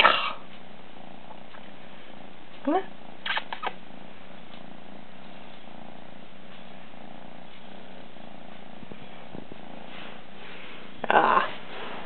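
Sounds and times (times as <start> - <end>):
kitten purring: 0.0 - 12.0.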